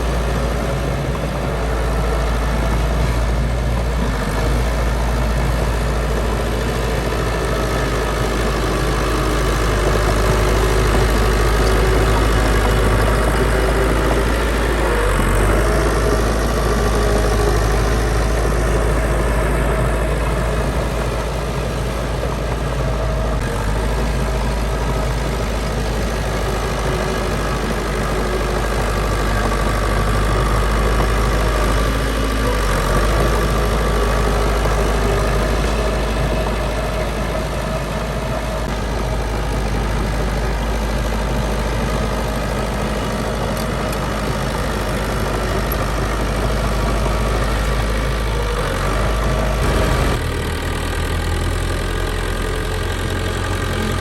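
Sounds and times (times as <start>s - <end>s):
heavy machinery diesel engine running: 0.0s - 54.0s.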